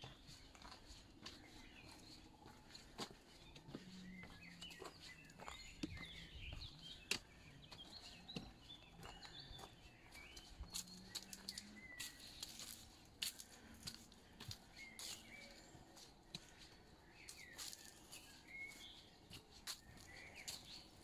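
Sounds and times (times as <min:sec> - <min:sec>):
footsteps crunching on leaf litter: 0:00.0 - 0:21.0
songbirds chirping: 0:00.0 - 0:21.0.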